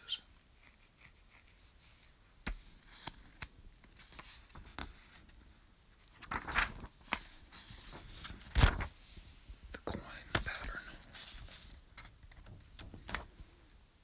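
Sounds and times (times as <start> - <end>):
page turning rustle: 0.4 - 13.5.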